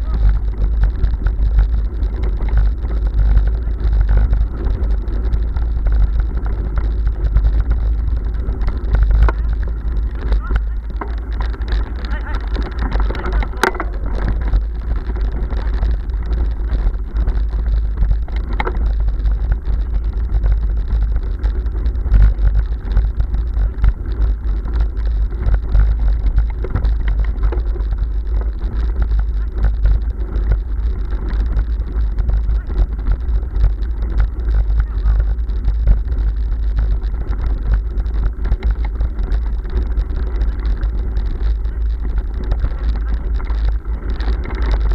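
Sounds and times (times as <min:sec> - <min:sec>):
bicycle rattling over cobblestones: 0:00.0 - 0:44.9
wind rumble on microphone: 0:00.0 - 0:44.9.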